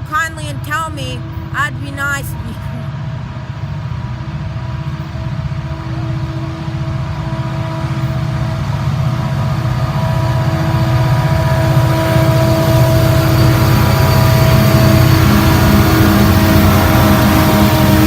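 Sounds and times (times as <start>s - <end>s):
diesel train engine pulsing: 0.0s - 18.0s.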